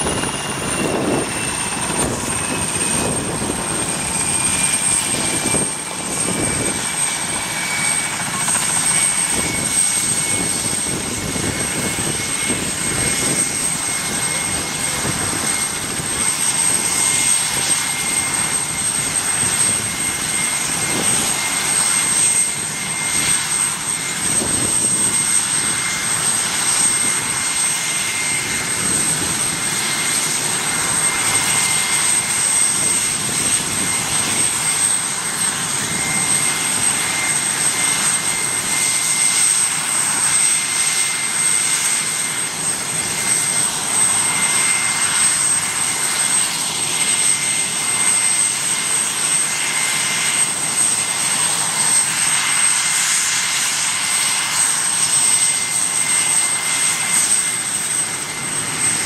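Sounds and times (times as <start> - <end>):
helicopter rotors turning: 0.0 - 59.0
helicopter turbine whine: 0.0 - 59.0.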